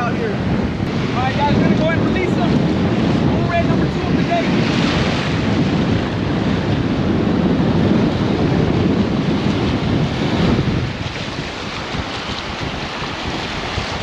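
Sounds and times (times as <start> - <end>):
breaking surf: 0.0 - 14.0
wind buffeting microphone: 0.0 - 14.0.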